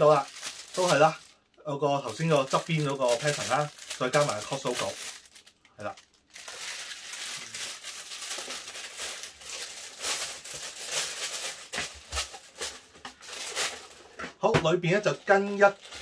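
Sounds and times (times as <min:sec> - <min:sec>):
wax paper crinkling: 0:00.0 - 0:14.2, 0:14.9 - 0:16.0.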